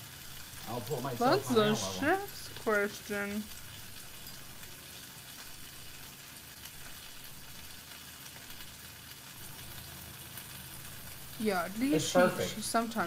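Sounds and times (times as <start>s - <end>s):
faint sizzle in pot: 0.0s - 13.0s.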